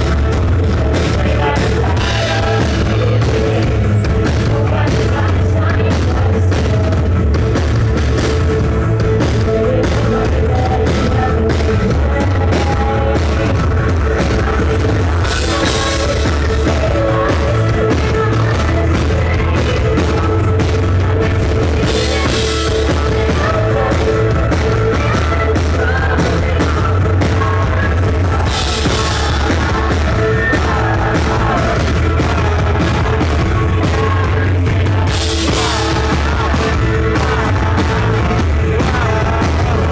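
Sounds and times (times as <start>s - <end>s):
drum-kit beat: 0.0s - 39.9s
female lead vocal: 0.0s - 39.9s
live rock band: 0.0s - 39.9s.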